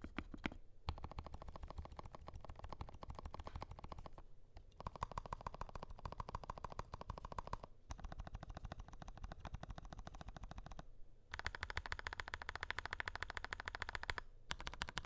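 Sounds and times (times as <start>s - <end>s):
fast typing on mechanical keyboard: 0.0s - 15.0s.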